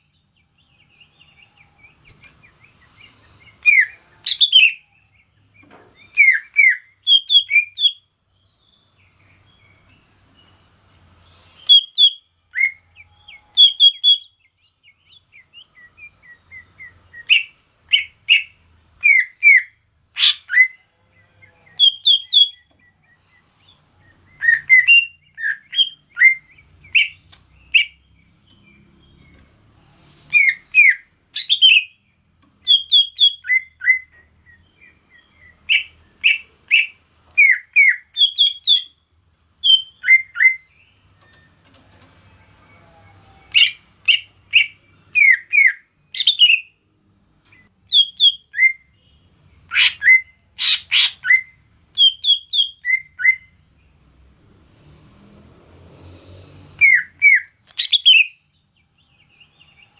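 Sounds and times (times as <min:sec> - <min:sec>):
bird singing whistled notes: 0:00.0 - 0:10.6, 0:11.2 - 0:29.4, 0:30.3 - 0:32.0, 0:32.6 - 0:39.0, 0:39.6 - 0:41.6, 0:42.8 - 0:46.8, 0:47.5 - 0:53.6, 0:56.7 - 0:59.9.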